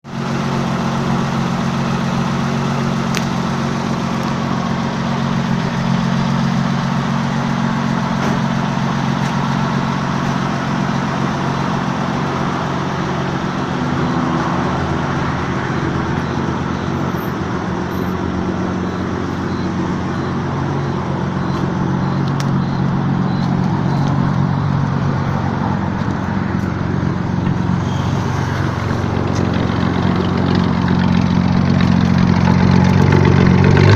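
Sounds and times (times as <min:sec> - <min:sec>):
motorcycle engine idling: 0:00.1 - 0:27.9, 0:28.6 - 0:33.9.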